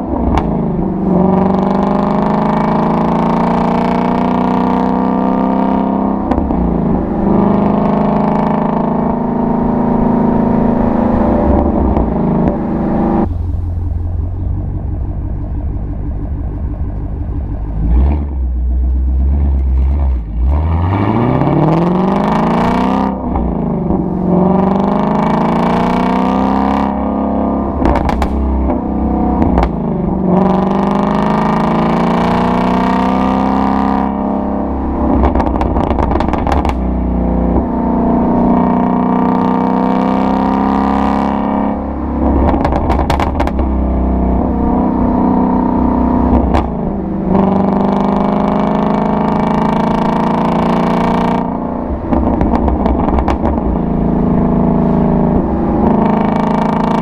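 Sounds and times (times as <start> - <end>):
car engine accelerating hard: 0.0 - 57.0
exhaust crackles: 0.0 - 57.0.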